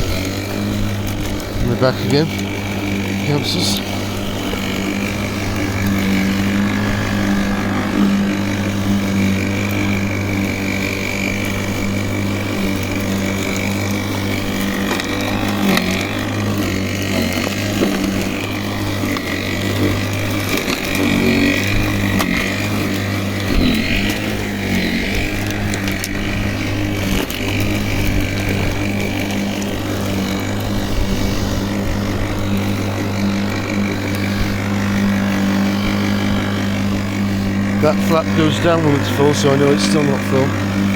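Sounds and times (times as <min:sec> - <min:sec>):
electric lawnmower humming: 0:00.0 - 0:40.9
spinning blade cutting grass: 0:00.0 - 0:40.9.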